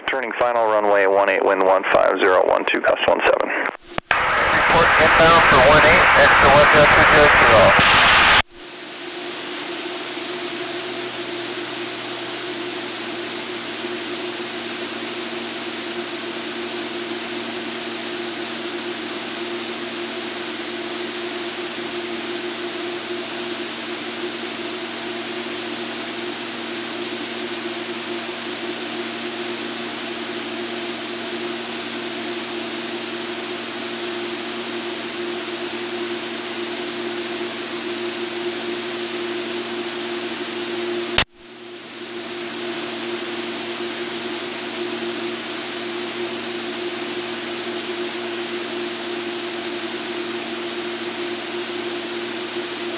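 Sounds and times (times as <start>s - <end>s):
plane engine and propeller drone: 0.0s - 52.9s
steady whining tones: 3.8s - 51.6s.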